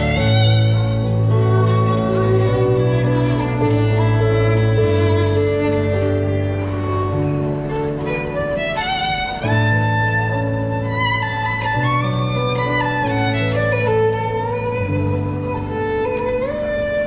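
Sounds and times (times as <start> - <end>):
violin melody with slides: 0.0 - 17.0.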